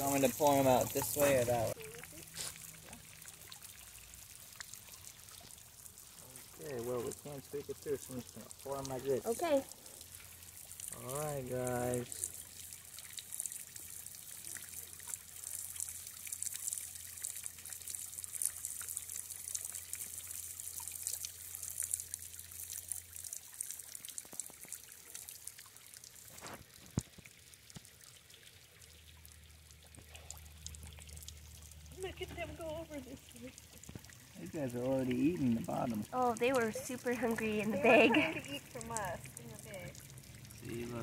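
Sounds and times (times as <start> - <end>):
water trickling and splashing: 0.0 - 41.0.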